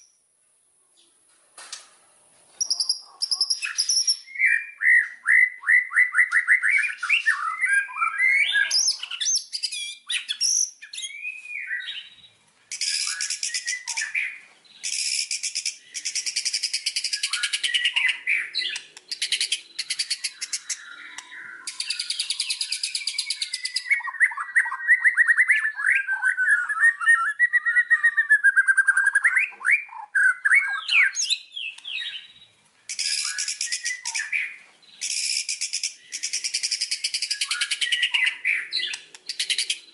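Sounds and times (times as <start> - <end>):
songbird whistling song: 0.0 - 0.2, 2.6 - 39.9.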